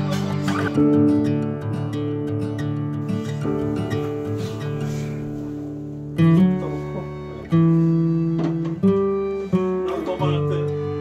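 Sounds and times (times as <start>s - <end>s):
acoustic guitar chords ringing: 0.0s - 11.0s.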